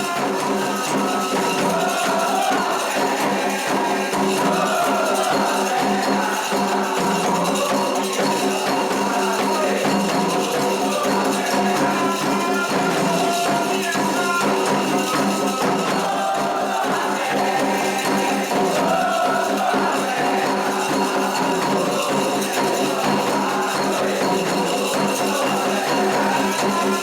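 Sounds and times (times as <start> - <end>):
drums: 0.0 - 27.0
jingling shaker strokes: 0.0 - 27.0.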